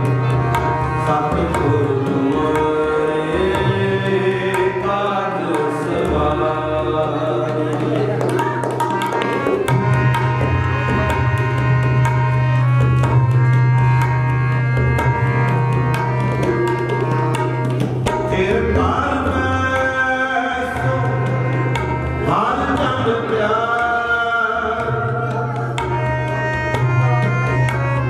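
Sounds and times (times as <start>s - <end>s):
sustained melody: 0.0s - 28.0s
tabla strokes: 0.0s - 28.0s.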